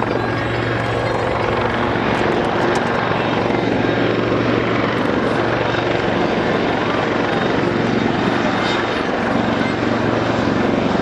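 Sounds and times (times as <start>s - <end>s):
broad rushing noise: 0.0s - 11.0s
helicopter rotor and engine drone: 0.0s - 11.0s.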